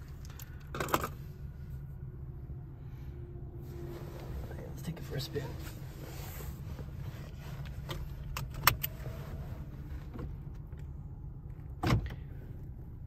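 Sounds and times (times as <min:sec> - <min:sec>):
engine idling inside cab: 0:00.0 - 0:13.0.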